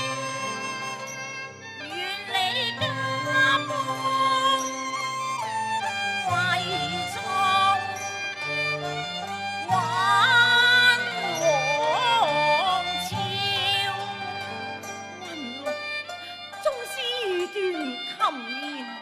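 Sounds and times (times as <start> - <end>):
bowed fiddle melody: 0.0 - 19.0
opera ensemble playing: 0.0 - 19.0.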